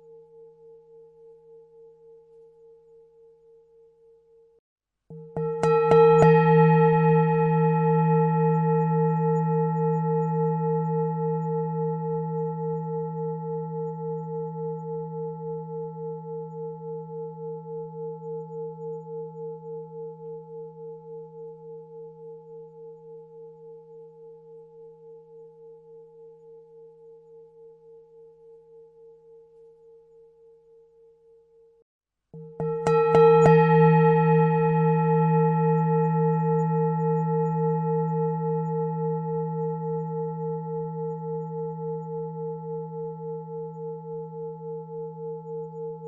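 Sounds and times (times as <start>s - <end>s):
singing bowl ringing: 0.0s - 31.8s, 32.4s - 46.0s.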